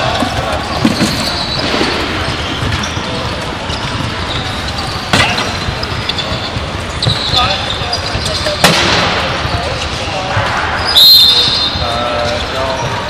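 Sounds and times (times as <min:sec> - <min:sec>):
ball bouncing: 0:00.0 - 0:13.0
wheelchairs rolling: 0:00.0 - 0:13.0.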